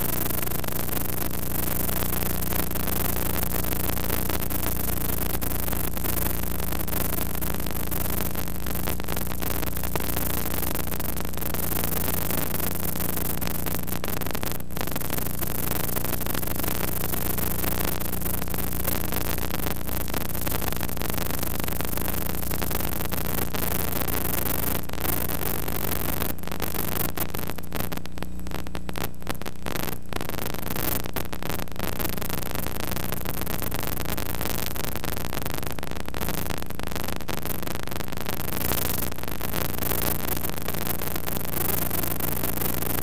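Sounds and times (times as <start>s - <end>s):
steady hiss and static: 0.0s - 43.0s.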